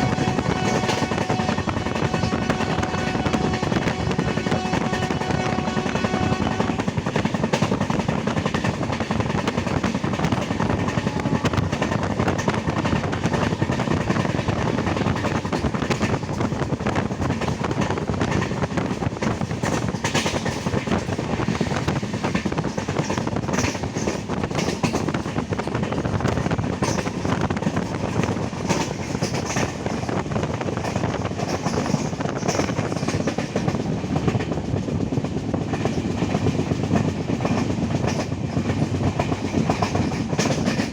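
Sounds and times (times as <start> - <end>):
clacks over rail joints: 0.0 - 40.9
train wheels rumbling on rails: 0.0 - 40.9.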